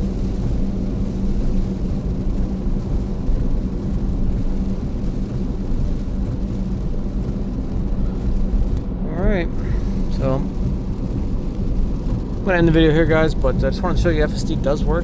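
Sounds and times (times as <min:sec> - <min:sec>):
low cabin hum: 0:00.0 - 0:15.0
rain on car: 0:00.0 - 0:15.0
tyres hissing on wet road: 0:00.0 - 0:15.0.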